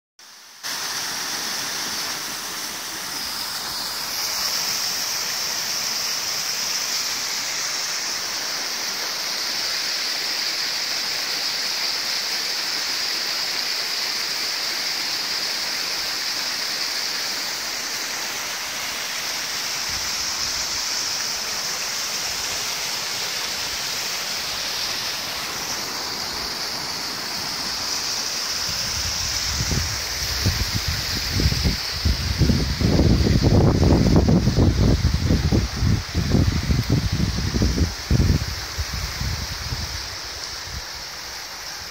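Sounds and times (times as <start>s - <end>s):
creek running over rapids: 0.2s - 41.9s
waterfall cascading down rocks: 0.2s - 41.9s.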